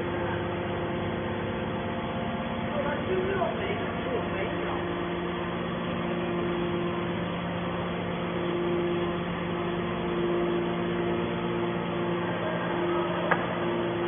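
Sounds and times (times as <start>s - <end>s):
hydraulic baler machine hum: 0.0s - 14.0s.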